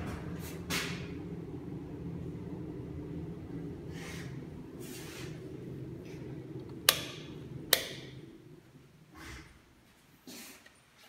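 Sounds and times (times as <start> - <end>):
air conditioner humming: 0.0 - 11.0
soft hissing swishes: 0.2 - 10.7.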